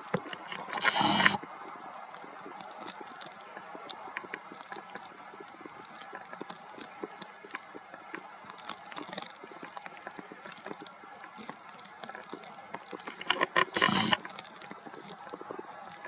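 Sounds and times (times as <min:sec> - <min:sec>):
small clicks: 0:00.0 - 0:01.4, 0:02.1 - 0:16.0.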